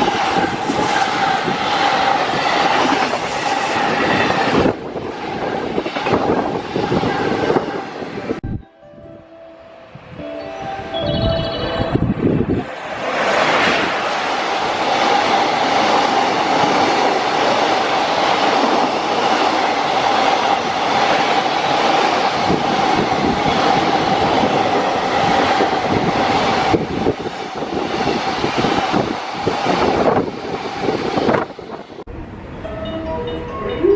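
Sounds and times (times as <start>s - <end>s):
freight train wheels on rails: 0.0s - 8.4s, 11.6s - 33.9s
train whine: 0.0s - 33.9s.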